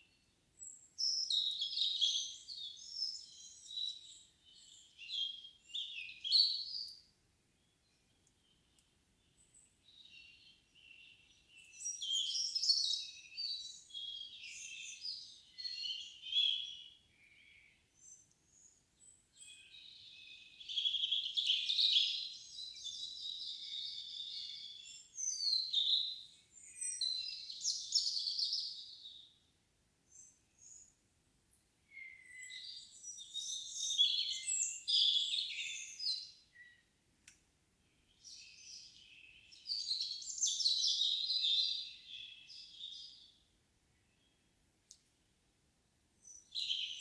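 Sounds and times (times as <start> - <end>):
songbirds singing: 0.0 - 45.3, 46.2 - 47.0.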